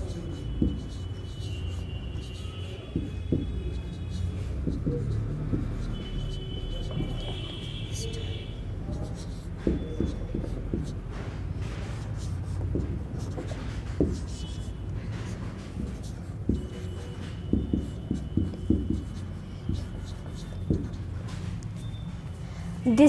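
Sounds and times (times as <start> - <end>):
marker writing on whiteboard: 0.0 - 23.0.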